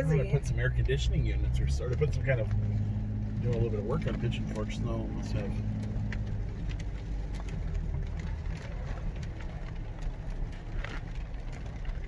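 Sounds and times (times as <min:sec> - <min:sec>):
engine and tyres on wet road: 0:00.0 - 0:12.0
light ticks: 0:00.8 - 0:12.0.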